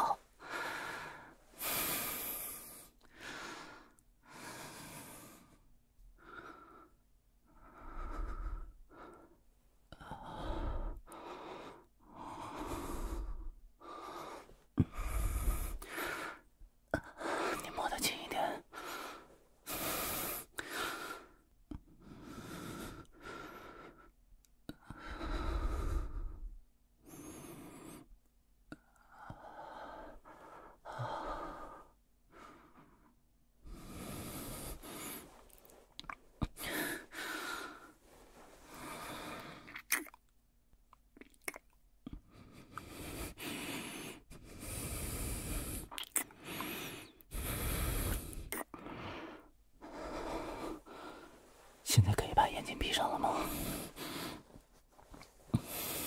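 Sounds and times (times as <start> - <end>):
man breathing: 0.0 - 17.7, 18.4 - 24.1, 24.7 - 28.1, 28.8 - 39.8, 42.1 - 56.0.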